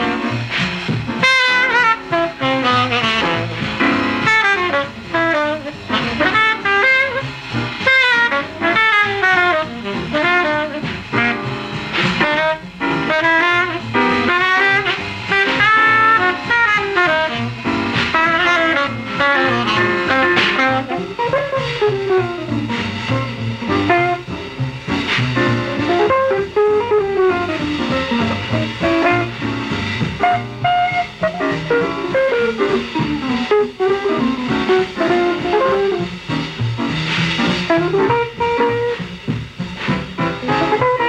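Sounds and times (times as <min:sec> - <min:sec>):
jazz background music: 0:00.0 - 0:41.0.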